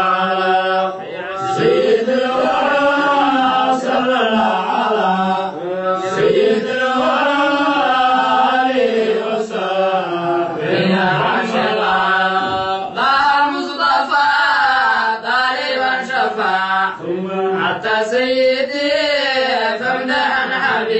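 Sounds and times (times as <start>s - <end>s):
male voices chanting: 0.0s - 20.9s.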